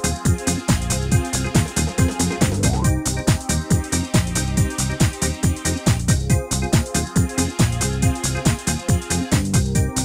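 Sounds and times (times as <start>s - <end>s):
electronic dance music: 0.0s - 9.6s.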